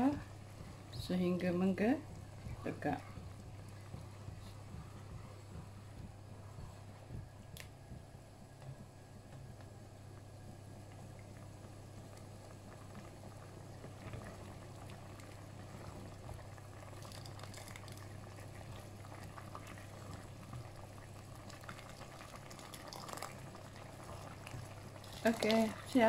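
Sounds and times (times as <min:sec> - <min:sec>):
porridge bubbling in a pot: 0:00.0 - 0:26.0.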